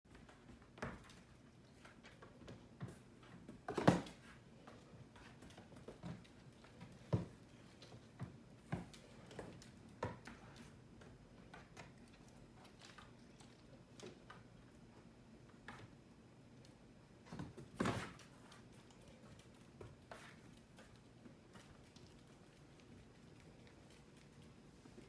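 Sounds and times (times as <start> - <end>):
hooves and claws tapping floor: 0.1 - 25.0.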